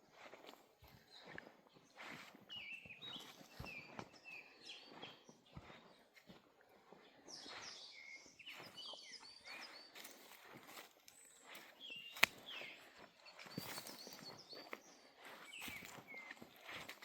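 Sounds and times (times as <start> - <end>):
birds chirping: 0.8 - 17.0.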